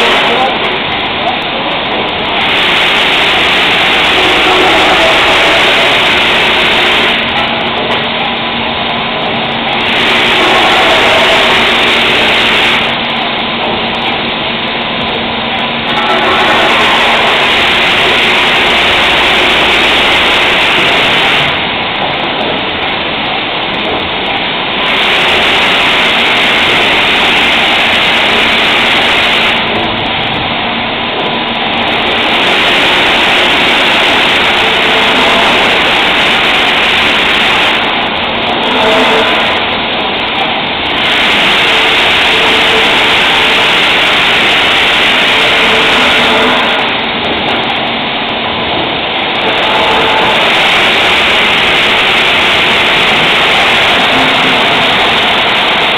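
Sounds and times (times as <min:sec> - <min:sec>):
lathe machining hiss: 0:00.0 - 0:14.4, 0:15.3 - 0:55.9
low machine hum: 0:00.0 - 0:55.9.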